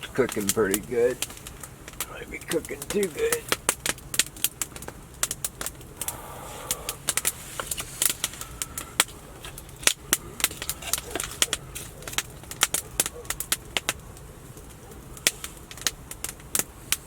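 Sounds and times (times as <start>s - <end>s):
burning wood snapping and popping: 0.0s - 17.0s
campfire crackling: 0.0s - 17.0s.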